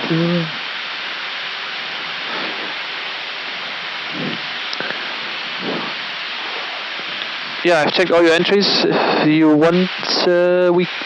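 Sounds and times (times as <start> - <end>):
air-conditioning noise: 0.0 - 11.0
rushing airflow: 1.6 - 11.0.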